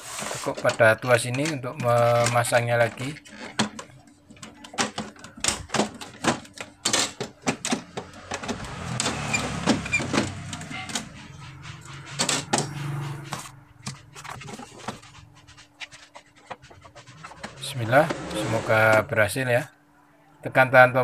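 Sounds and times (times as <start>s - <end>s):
scraping on plastic: 0.0s - 19.1s.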